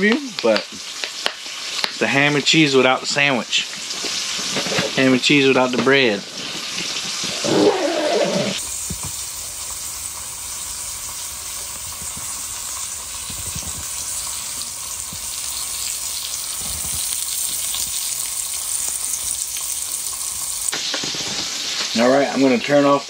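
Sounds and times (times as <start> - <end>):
ham sizzling in butter: 0.0 - 23.0.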